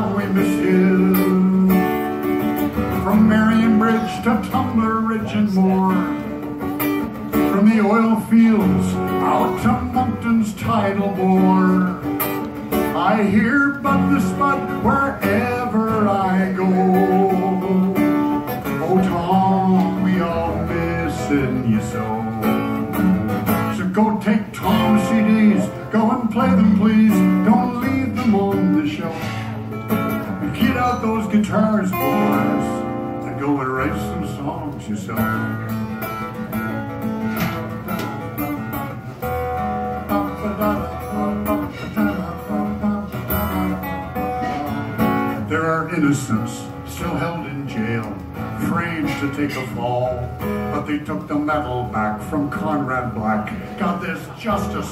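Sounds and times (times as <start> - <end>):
acoustic guitar playing: 0.0 - 54.9.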